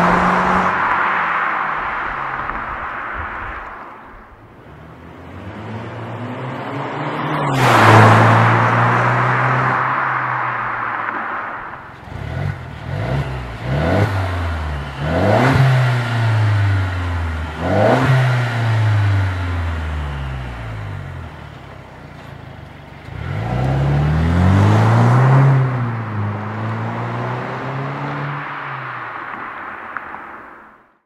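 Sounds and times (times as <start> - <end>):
car engine revving: 0.0 - 30.1
car driving off: 0.0 - 30.7.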